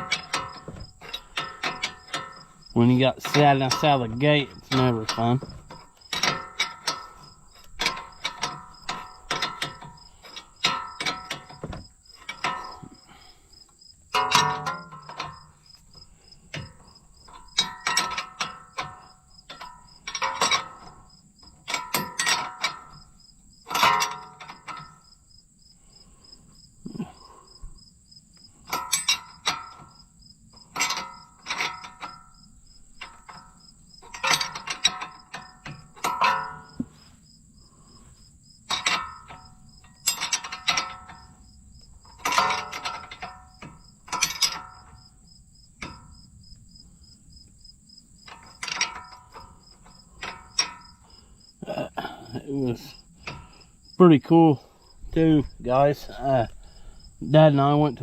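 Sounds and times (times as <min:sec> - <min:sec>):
hand tools clinking on steel: 0:00.0 - 0:25.0, 0:28.6 - 0:30.0, 0:30.6 - 0:37.2, 0:37.8 - 0:46.4, 0:48.2 - 0:58.0
crickets and insects chirping: 0:00.0 - 0:58.0.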